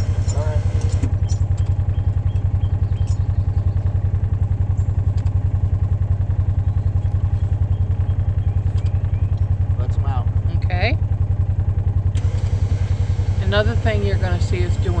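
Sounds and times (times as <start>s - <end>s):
vehicle engine running at low speed: 0.0s - 15.0s.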